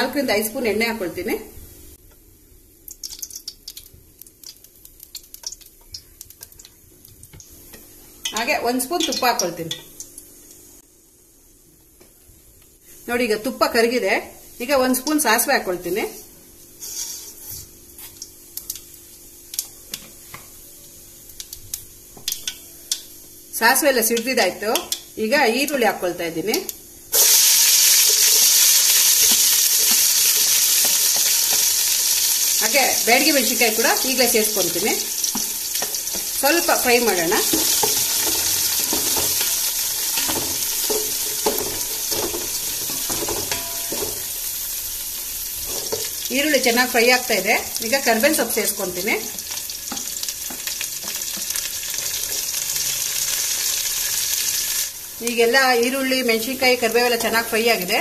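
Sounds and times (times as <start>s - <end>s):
seeds sizzling in hot oil: 1.9s - 11.6s, 12.8s - 58.0s.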